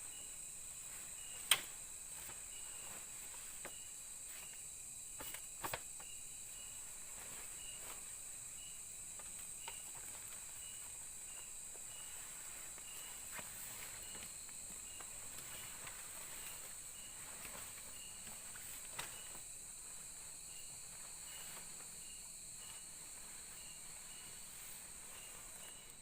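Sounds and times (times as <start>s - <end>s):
insect chirps: 0.0s - 26.0s.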